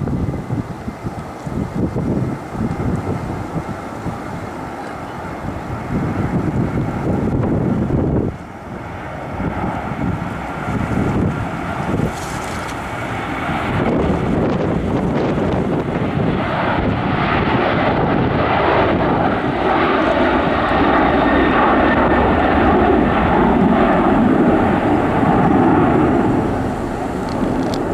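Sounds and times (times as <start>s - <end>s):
loud jet engine noise: 0.0s - 27.9s.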